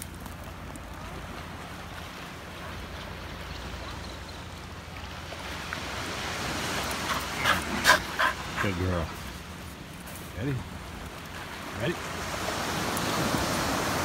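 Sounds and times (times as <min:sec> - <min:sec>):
small waves washing on beach: 0:00.0 - 0:14.0.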